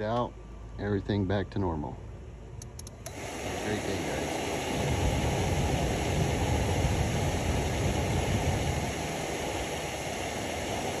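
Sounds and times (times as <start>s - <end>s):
car blower fan air rushing: 0.0s - 11.0s.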